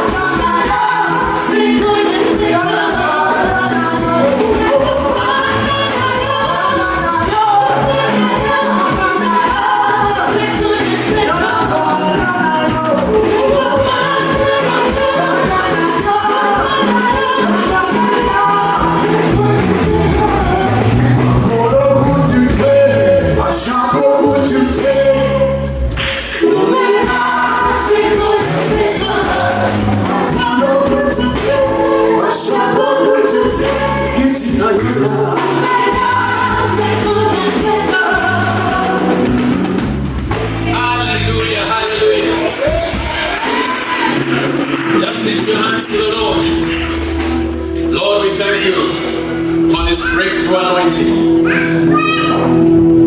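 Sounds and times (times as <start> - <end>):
congregation and band singing gospel: 0.0 - 53.0
sustained bass notes: 0.0 - 53.0.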